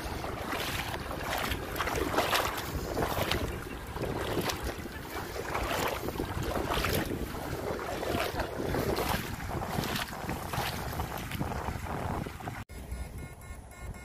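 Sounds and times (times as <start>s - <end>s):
water swishing: 0.0s - 12.7s
wind rumbling on microphone: 0.0s - 12.7s.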